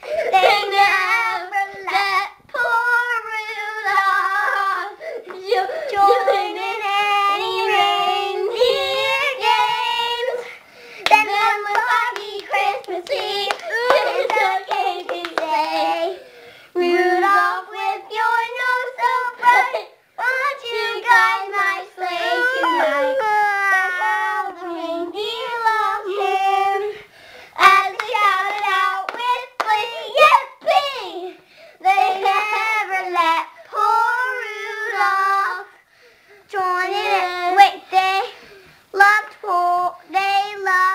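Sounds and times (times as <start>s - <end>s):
children singing: 0.0s - 16.2s, 16.8s - 27.0s, 27.6s - 35.8s.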